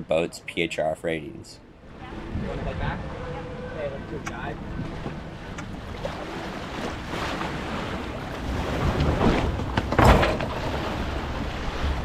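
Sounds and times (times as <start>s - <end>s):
water rushing along hull: 0.0s - 12.0s.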